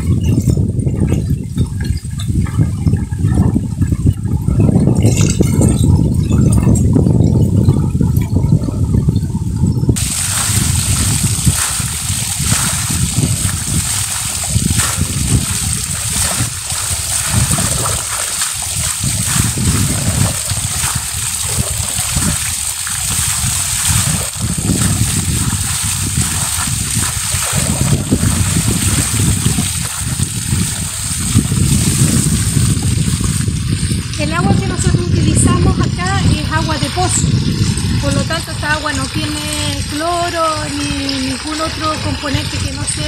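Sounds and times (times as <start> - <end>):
steady low rumble: 0.0 - 43.0
water splashing and trickling: 0.0 - 43.0.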